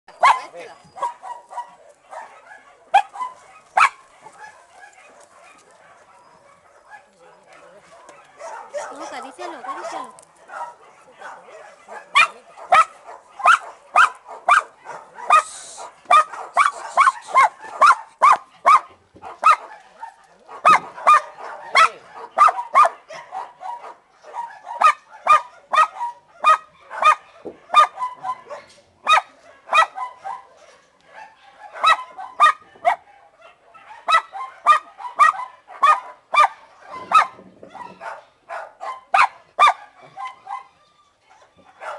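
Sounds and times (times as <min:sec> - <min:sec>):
dog barking: 0:00.1 - 0:41.9.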